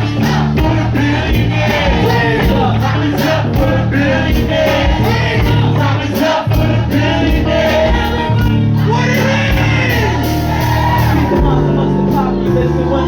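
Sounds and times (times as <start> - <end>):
drum beat with hi-hat: 0.0 - 12.5
bass line: 0.0 - 13.0
voices singing: 0.0 - 13.0.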